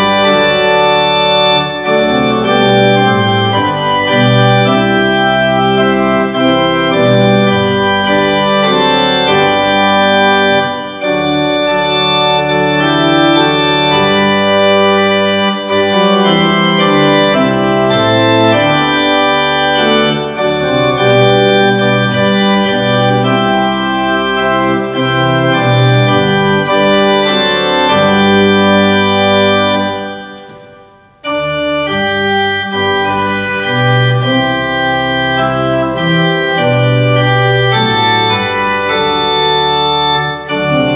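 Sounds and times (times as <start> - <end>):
organ playing slow chords: 0.0 - 40.9.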